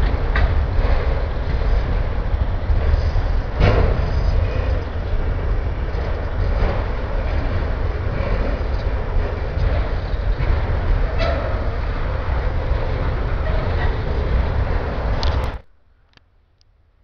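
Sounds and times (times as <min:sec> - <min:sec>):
train wheels rumbling: 0:00.0 - 0:16.2.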